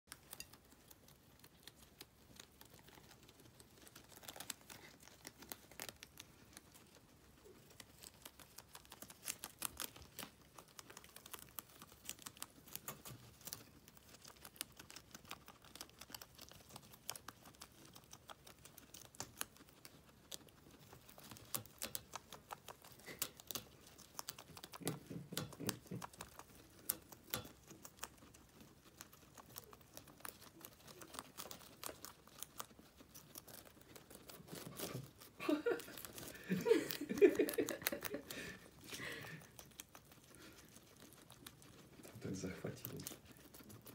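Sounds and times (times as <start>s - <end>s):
guinea pigs chewing greens: 0.1s - 43.9s.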